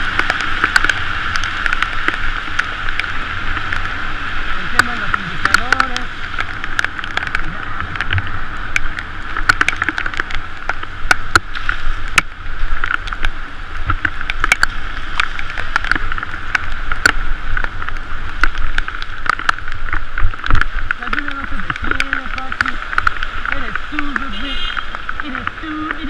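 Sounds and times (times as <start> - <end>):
bicycle tyres hissing through water: 0.0 - 26.0.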